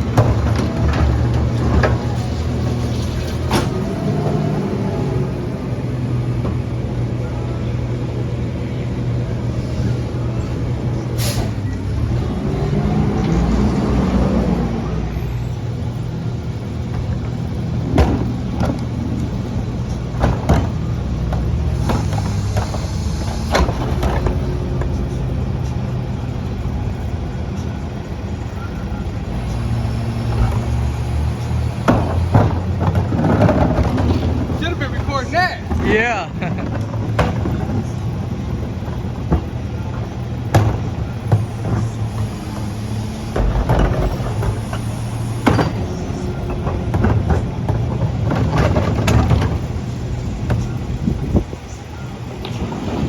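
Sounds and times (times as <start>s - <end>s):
garbage truck engine running: 0.0s - 53.0s.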